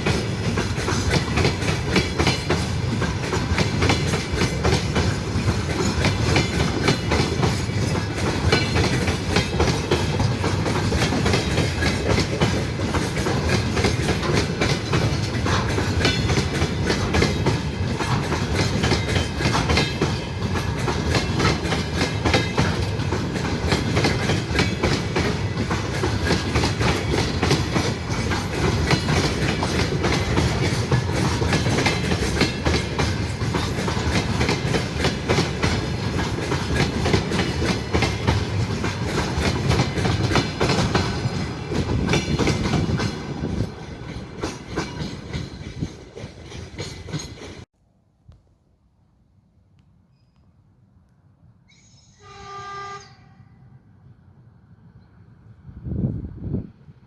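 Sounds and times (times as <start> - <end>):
train rumble: 0.0 - 47.7
train wheels clattering: 0.0 - 47.7.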